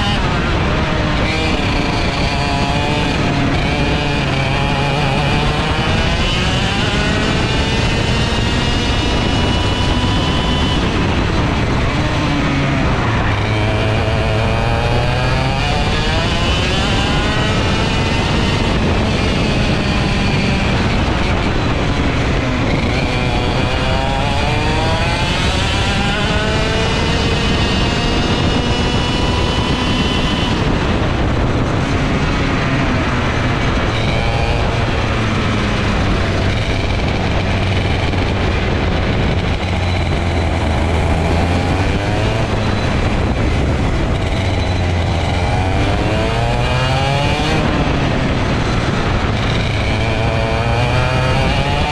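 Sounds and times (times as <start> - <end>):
kart engine revving: 0.0 - 51.9.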